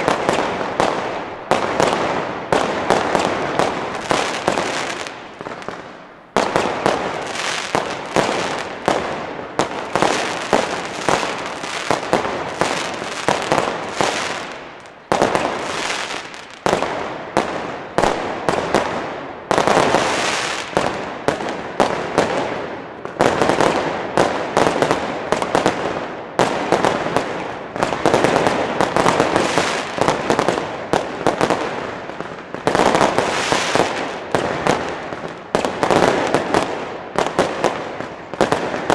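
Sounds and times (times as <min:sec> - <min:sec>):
crackling of aerial firework bursts: 0:00.0 - 0:38.9.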